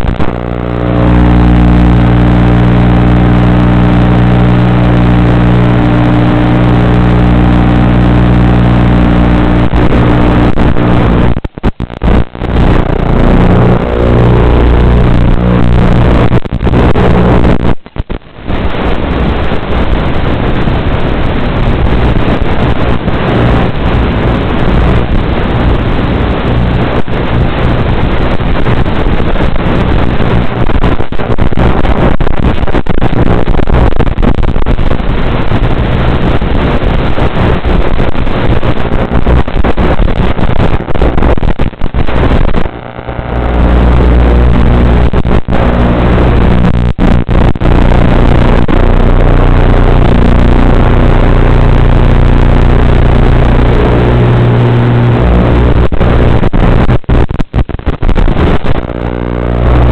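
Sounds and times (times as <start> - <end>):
low steady hum: 0.0 - 59.9
static hiss: 0.0 - 59.9.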